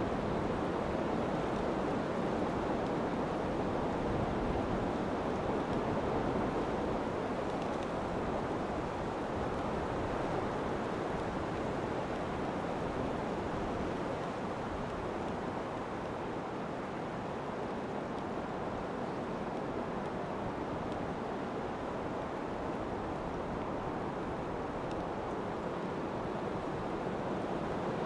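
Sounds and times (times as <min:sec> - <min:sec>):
river water flowing: 0:00.0 - 0:28.0.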